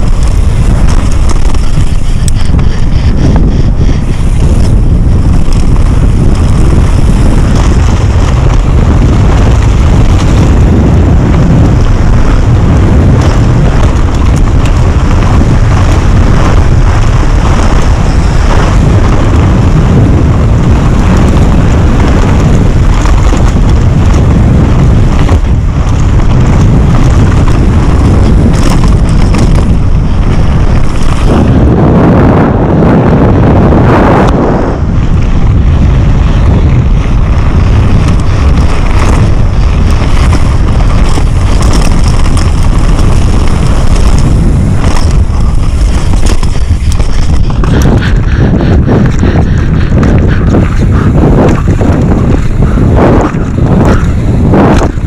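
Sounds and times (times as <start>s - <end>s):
bike tyres rattling on gravel: 0.0s - 55.0s
wind buffeting microphone: 0.0s - 55.0s.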